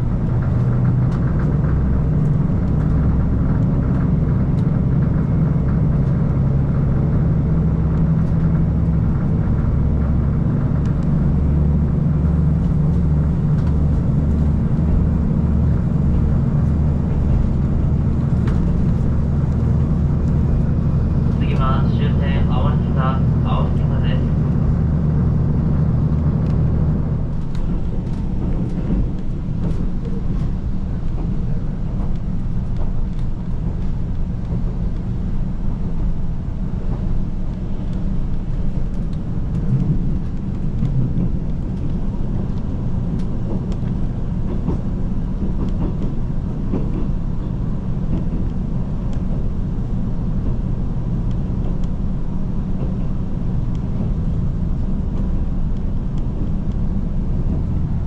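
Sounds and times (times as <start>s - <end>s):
engine low hum: 0.0s - 58.0s
train rumble on rails: 0.0s - 58.0s.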